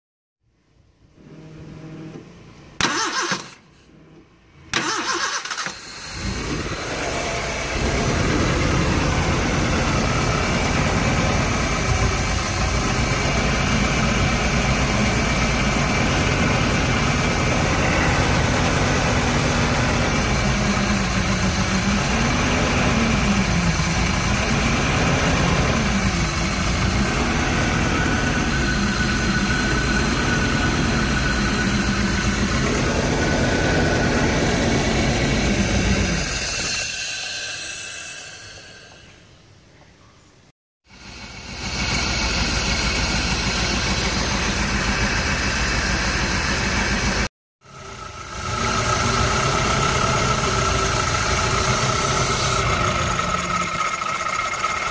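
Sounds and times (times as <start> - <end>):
car engine starting and idling: 1.2 - 39.2, 40.9 - 54.9.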